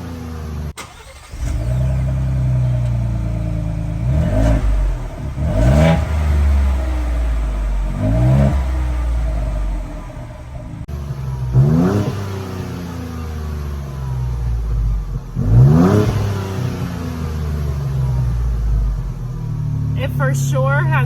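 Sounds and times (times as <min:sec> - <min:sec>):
engine revving with deep growl: 0:00.0 - 0:21.0.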